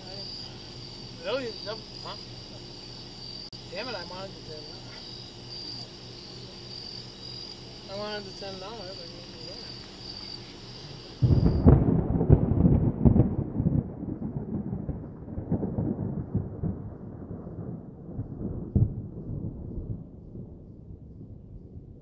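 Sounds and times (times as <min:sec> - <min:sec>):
deep crackling rumble: 0:00.0 - 0:22.0.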